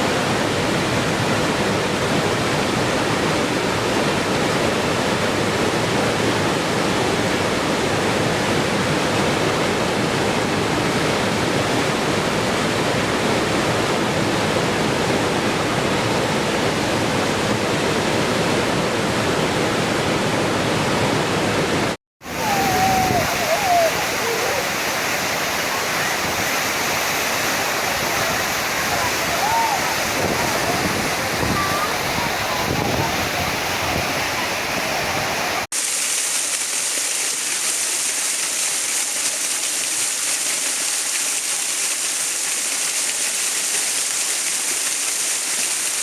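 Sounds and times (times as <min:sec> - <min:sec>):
rushing water: 0:00.0 - 0:46.0.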